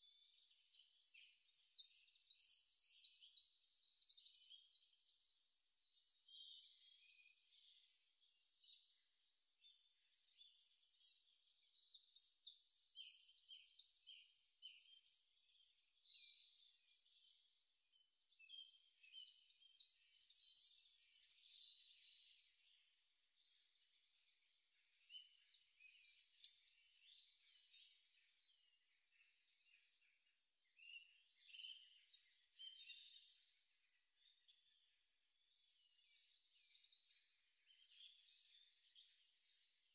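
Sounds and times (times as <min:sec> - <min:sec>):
birds chirping: 0:00.3 - 0:39.9.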